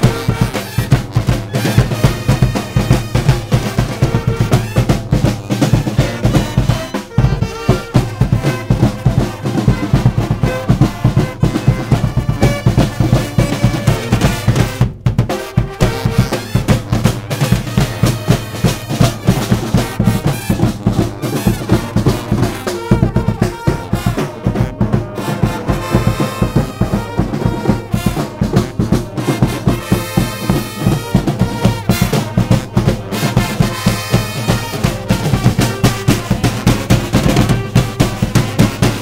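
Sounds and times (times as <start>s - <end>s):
brass band playing: 0.0s - 39.0s
drum beat with snare rolls: 0.0s - 39.0s.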